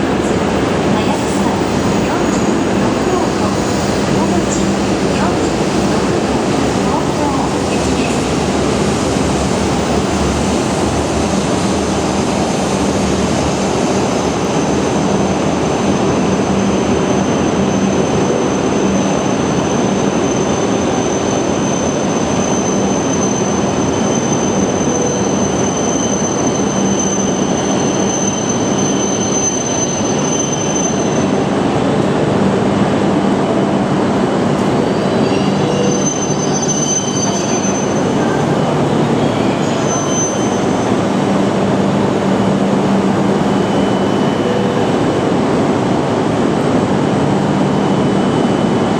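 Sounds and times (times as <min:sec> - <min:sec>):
train running noise: 0:00.0 - 0:48.9.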